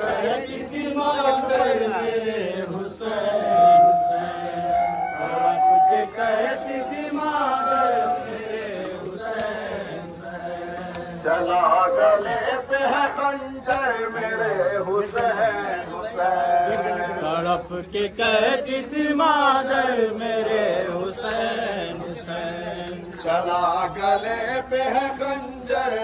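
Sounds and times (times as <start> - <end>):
men chanting a lament: 0.0 - 26.0.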